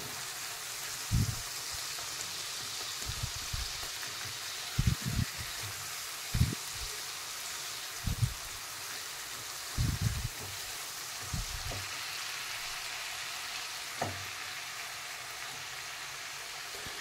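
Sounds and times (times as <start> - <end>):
masala frying hiss: 0.0 - 17.0.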